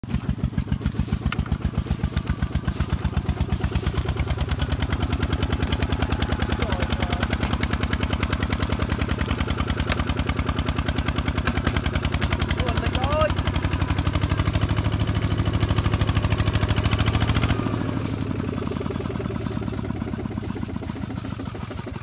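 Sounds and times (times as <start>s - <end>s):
diesel tractor engine thudding: 0.0s - 22.0s.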